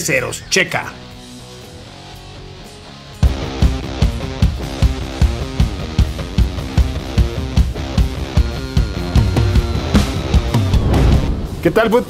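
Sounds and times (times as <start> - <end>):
rock guitar: 0.0 - 11.6.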